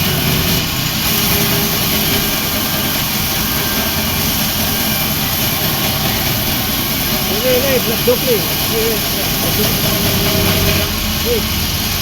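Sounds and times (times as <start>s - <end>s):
bandsaw running: 0.0s - 12.0s.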